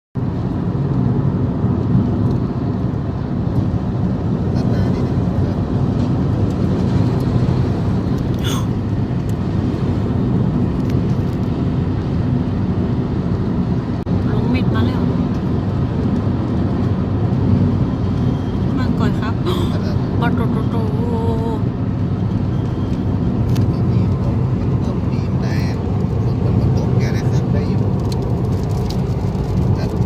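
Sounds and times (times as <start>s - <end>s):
car interior road and engine rumble: 0.2s - 30.0s.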